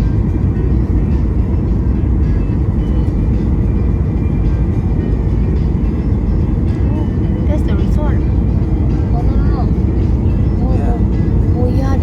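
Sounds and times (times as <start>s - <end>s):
airplane engines rumbling in cabin: 0.0s - 12.0s.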